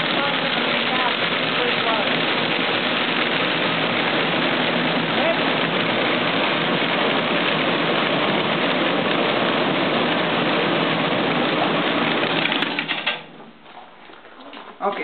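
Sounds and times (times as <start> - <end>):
beans rattling on shaking screens: 0.0 - 15.0
motor hum: 0.0 - 15.0.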